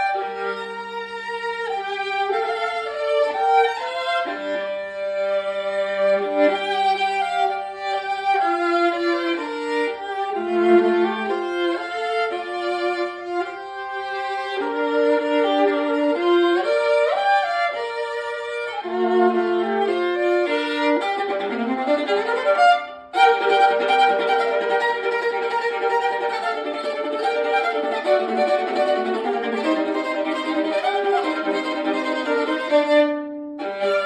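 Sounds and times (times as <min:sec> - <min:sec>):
violin melody: 0:00.0 - 0:34.0.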